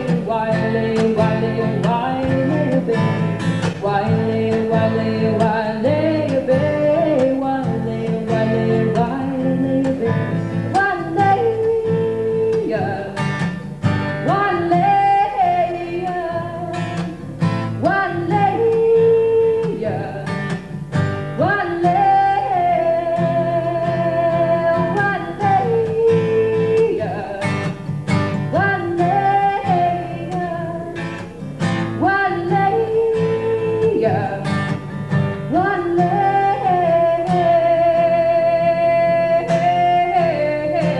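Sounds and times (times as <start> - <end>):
strummed acoustic guitar: 0.0 - 40.9
woman singing: 0.0 - 40.9.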